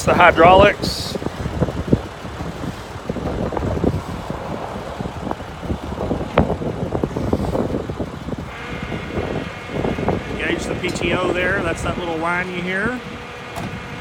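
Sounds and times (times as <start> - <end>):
diesel engine idling: 0.0 - 14.0
high hydraulic whine: 0.0 - 14.0
wind buffeting microphone: 0.0 - 14.0.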